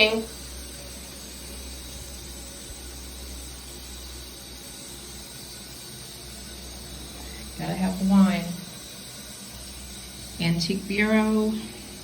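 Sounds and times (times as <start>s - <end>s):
water running from tap: 0.0s - 12.0s.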